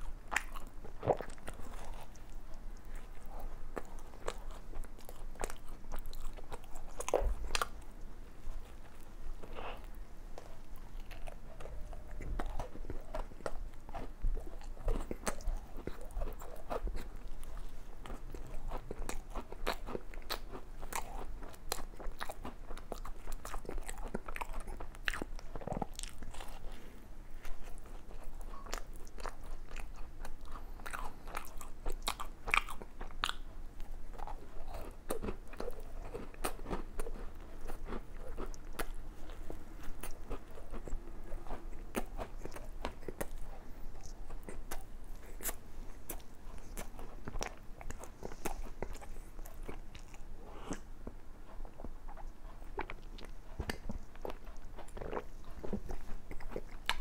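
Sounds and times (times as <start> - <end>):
crunchy biting and chewing: 0.0 - 57.0.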